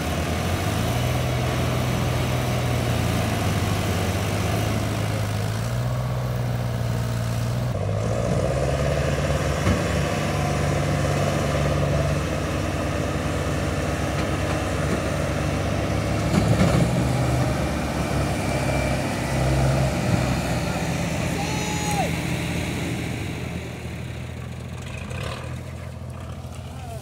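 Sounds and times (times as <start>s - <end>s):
tractor diesel engine labouring: 0.0s - 27.0s.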